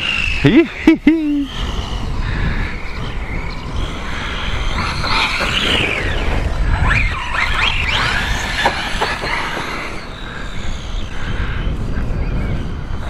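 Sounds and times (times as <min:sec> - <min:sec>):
steady low rumble: 0:00.8 - 0:13.0
electric motor whining: 0:01.4 - 0:13.0.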